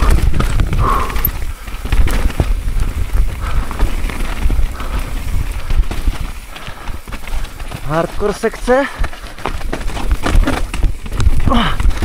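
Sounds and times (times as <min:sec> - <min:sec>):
wind rumble on microphone: 0:00.0 - 0:08.2, 0:09.0 - 0:12.0
bike wheels clattering over rocks: 0:00.0 - 0:12.0.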